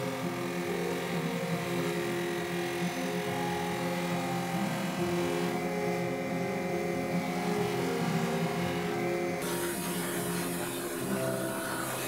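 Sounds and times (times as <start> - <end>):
bench grinder motor hum: 0.0 - 12.0
blade polished on buffing wheel: 0.0 - 12.0.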